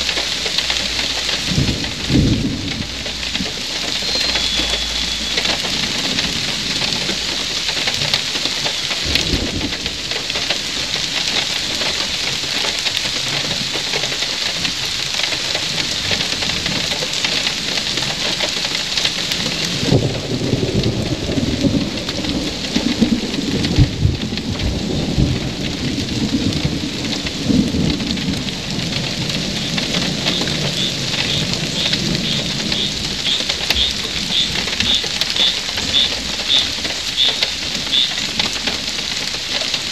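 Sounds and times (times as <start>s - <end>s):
thunder rumbling: 0.0s - 12.2s, 19.0s - 39.9s
heavy rain: 0.0s - 39.9s.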